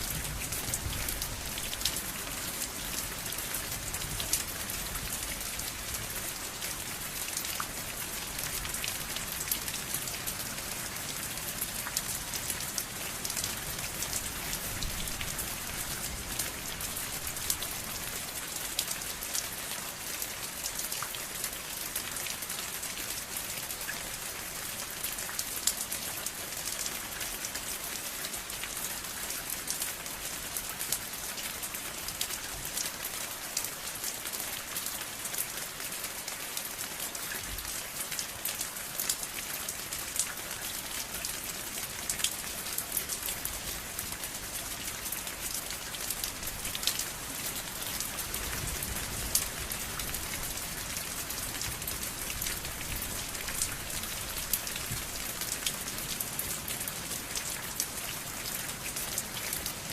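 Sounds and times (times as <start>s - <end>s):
rain falling: 0.0s - 59.9s
raindrops pattering on surface: 0.0s - 59.9s.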